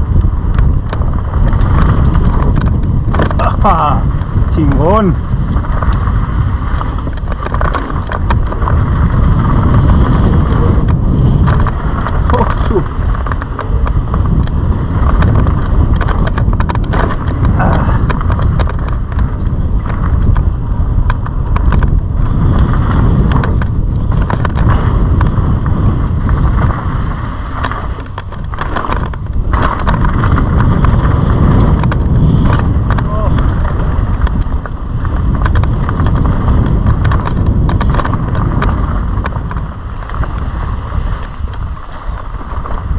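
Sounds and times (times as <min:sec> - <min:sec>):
bike tyres rattling over bumps: 0:00.0 - 0:42.9
wind buffeting camera: 0:00.0 - 0:42.9.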